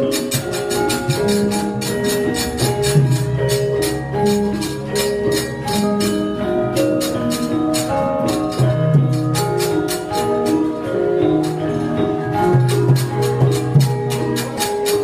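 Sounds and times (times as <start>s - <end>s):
gamelan sustained pitched notes: 0.0s - 15.0s
sharp percussive strokes: 0.0s - 15.0s.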